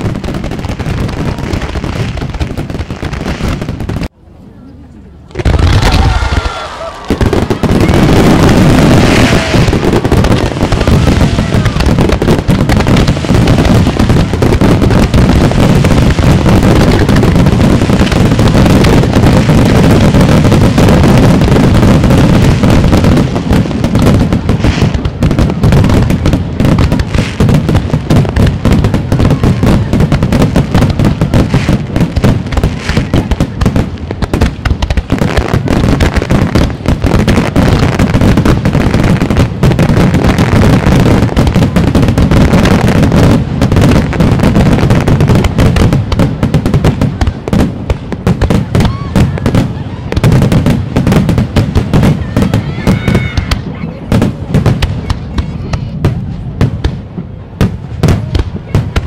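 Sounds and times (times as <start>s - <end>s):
ground fountains firing: 0.0s - 4.3s, 4.9s - 59.0s
sharp crackling: 5.3s - 56.2s.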